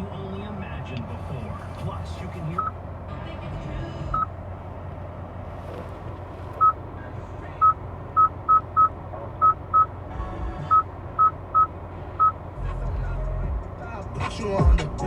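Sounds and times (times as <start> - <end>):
low cabin hum: 0.0 - 15.0.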